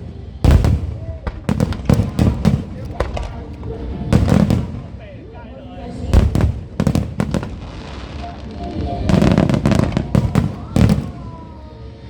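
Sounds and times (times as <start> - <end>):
fireworks bangs: 0.0 - 11.7.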